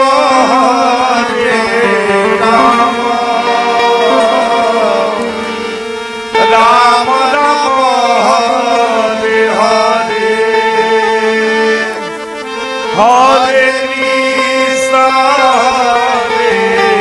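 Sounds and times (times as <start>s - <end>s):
harmonium: 0.0s - 17.0s
men singing devotional songs: 0.0s - 17.0s.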